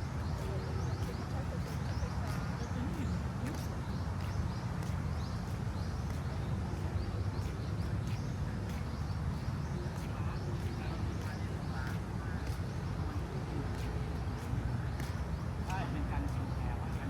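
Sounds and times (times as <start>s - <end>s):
bird chirping calls: 0.1s - 17.0s.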